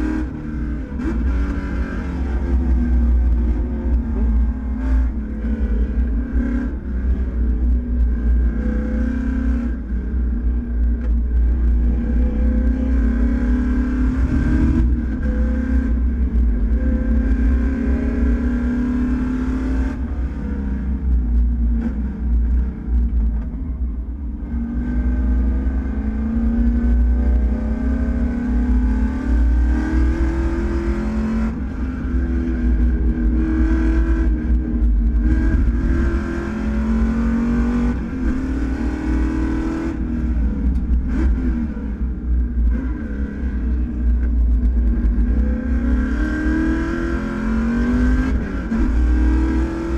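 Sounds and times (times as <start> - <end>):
race car engine revving: 0.0 - 22.6, 24.4 - 49.9.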